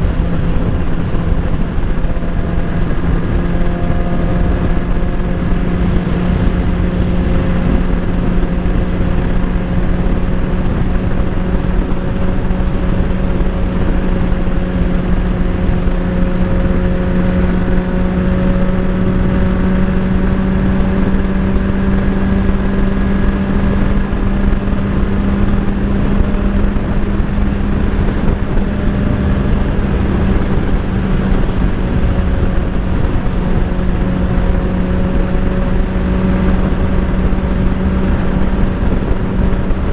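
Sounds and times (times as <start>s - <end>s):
motorcycle engine running steadily: 0.0s - 39.9s
wind rush on microphone: 0.0s - 39.9s.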